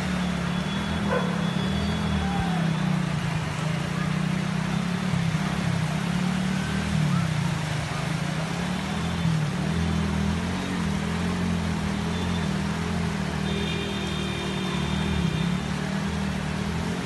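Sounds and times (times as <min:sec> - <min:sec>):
flowing floodwater: 0:00.0 - 0:17.0
heavy rain: 0:00.0 - 0:17.0.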